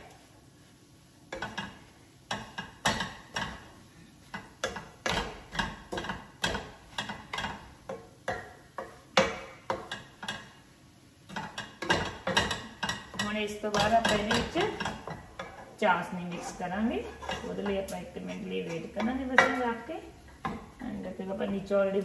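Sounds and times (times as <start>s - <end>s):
utensil scraping cooking pan: 1.3s - 21.8s.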